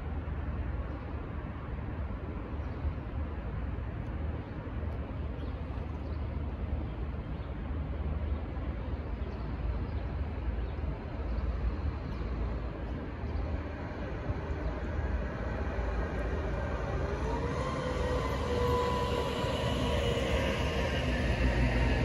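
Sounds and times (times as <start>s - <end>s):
low rumble of road vehicles: 0.0s - 22.0s.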